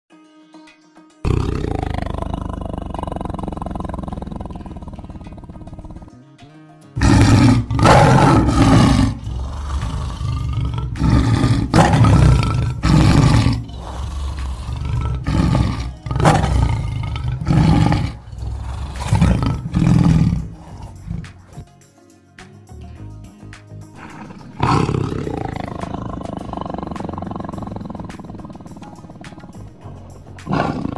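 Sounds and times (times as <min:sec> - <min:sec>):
background music: 0:00.1 - 0:30.9
tiger roaring: 0:01.3 - 0:06.1, 0:07.0 - 0:21.6, 0:24.0 - 0:30.9.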